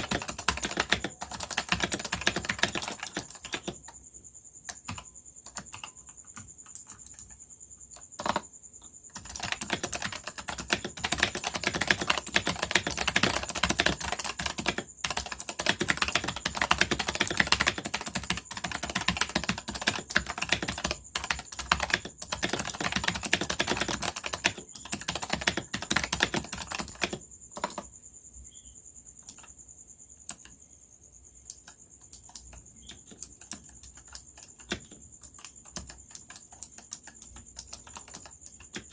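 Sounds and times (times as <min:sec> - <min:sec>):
clicky keyboard typing: 0:00.0 - 0:04.0, 0:04.6 - 0:28.0, 0:29.1 - 0:29.6, 0:30.2 - 0:30.6, 0:31.4 - 0:38.9.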